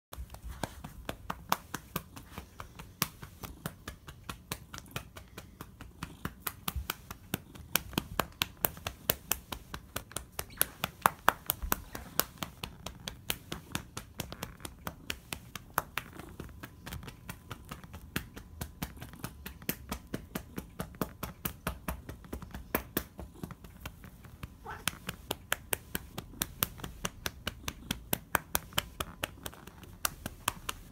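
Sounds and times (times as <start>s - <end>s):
hand patting a cat: 0.2s - 30.9s.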